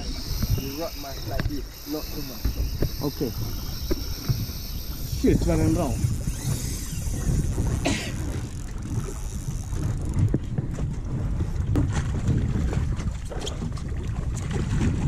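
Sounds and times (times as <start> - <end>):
boat motor rumble: 0.0 - 15.0
water splashing against hull: 0.0 - 15.0
wind on microphone: 0.0 - 15.0.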